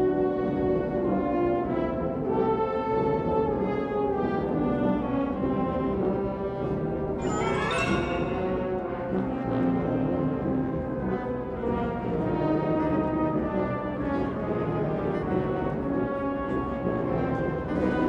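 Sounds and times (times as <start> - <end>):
wind orchestra playing chords: 0.0 - 18.0.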